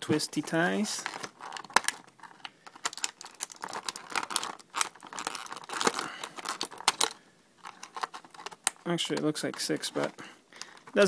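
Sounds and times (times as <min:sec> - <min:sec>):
plastic packaging crinkling: 0:00.4 - 0:11.0.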